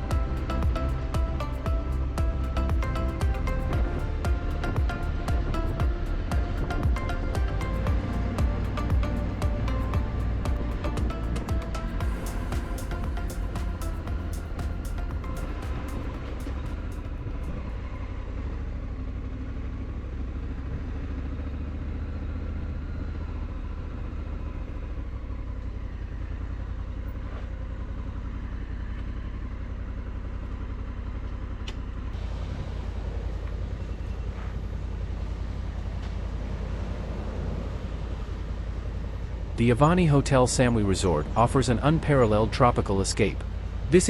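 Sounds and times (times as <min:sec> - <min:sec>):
motorcycle engine rumble: 0:00.0 - 0:44.0.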